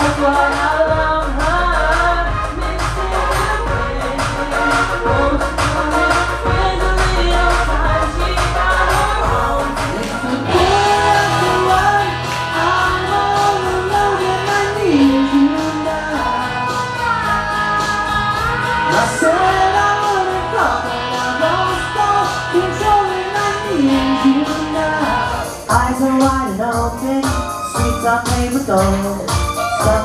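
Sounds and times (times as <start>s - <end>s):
person singing karaoke: 0.0s - 30.0s
recorded backing track: 0.0s - 30.0s.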